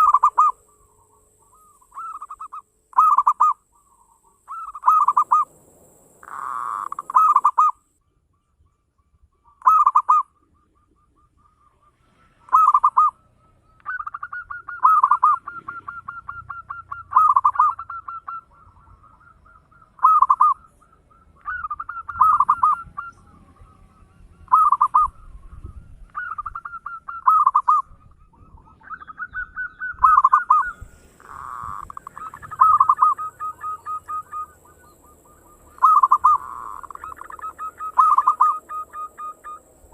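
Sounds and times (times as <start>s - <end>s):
dove cooing: 0.0s - 7.9s, 9.6s - 25.4s, 26.1s - 39.9s.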